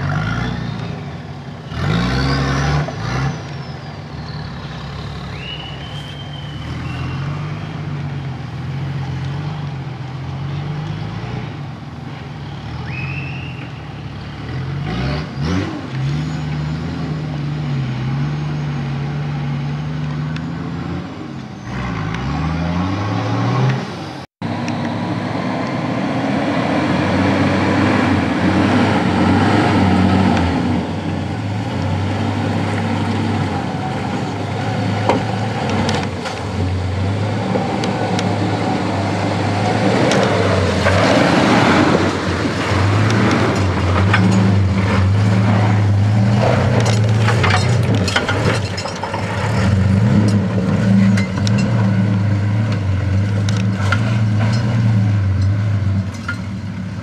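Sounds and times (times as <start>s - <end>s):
engine working hard uphill: 0.0s - 57.0s.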